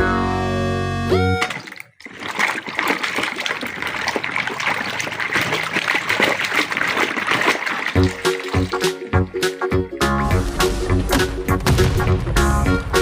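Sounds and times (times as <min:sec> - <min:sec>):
water splashing and trickling: 0:01.3 - 0:13.0.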